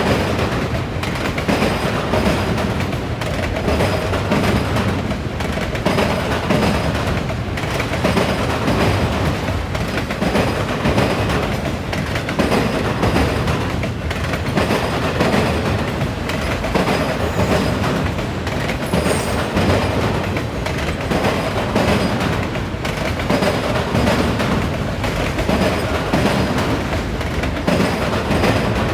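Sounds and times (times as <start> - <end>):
rumble of train cars: 0.0 - 28.9
train wheels clacking over crossing: 0.0 - 28.9.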